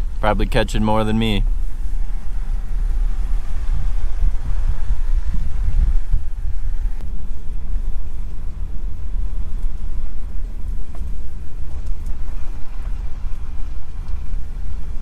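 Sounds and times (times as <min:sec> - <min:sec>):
vehicle driving on dirt track: 0:00.0 - 0:15.0.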